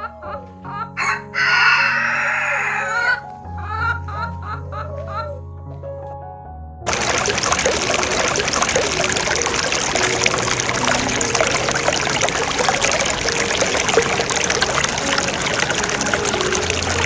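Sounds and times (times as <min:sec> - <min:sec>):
running water: 0:00.0 - 0:05.3, 0:06.9 - 0:17.0.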